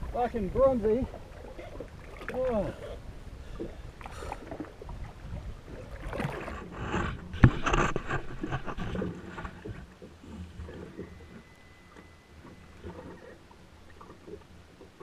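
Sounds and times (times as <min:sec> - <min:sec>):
water splashing against hull: 0:00.0 - 0:15.0.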